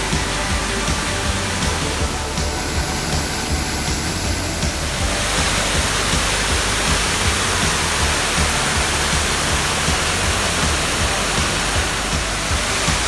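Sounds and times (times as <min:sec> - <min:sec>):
background music: 0:00.0 - 0:13.0
waterfall rushing: 0:00.0 - 0:13.0.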